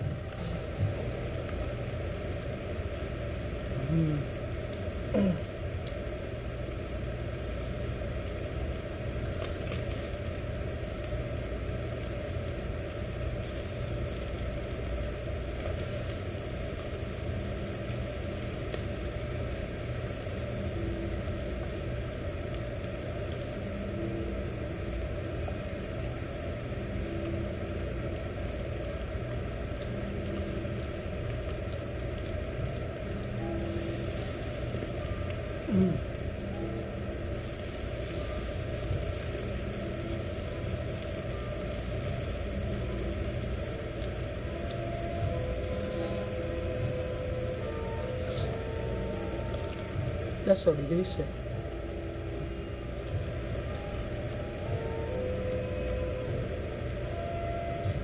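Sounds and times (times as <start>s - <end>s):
ventilation fan humming: 0.0s - 58.0s.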